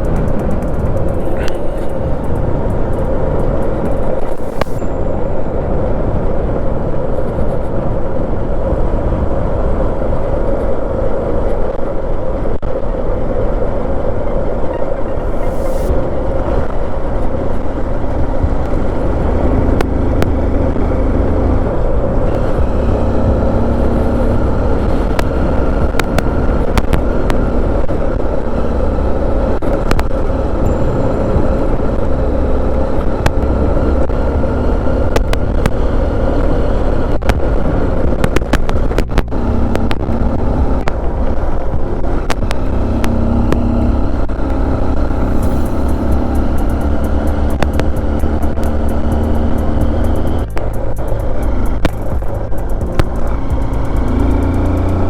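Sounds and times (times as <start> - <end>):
sharp clicks and ticks: 0.0 - 5.0, 14.7 - 55.0
motorcycle engine running: 0.0 - 8.0, 14.7 - 55.0
road and wind noise: 0.0 - 55.0.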